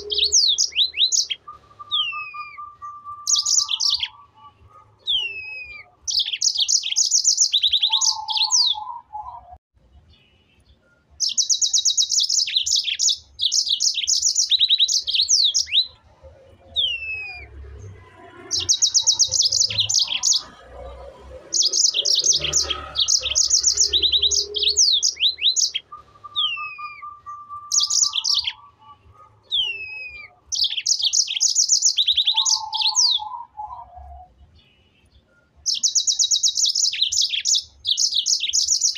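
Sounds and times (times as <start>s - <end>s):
songbird trilling: 0.0s - 9.4s, 11.2s - 16.0s, 18.4s - 20.6s, 21.4s - 34.3s, 35.7s - 38.9s.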